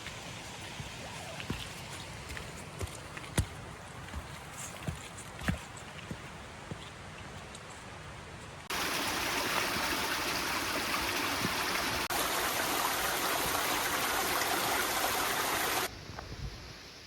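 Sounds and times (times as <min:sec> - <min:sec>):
rushing stream water: 0:00.0 - 0:15.9.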